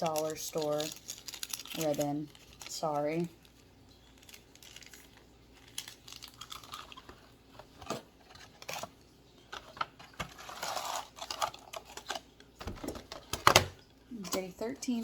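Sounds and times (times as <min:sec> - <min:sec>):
packaging crinkling and rustling: 0:00.0 - 0:14.5.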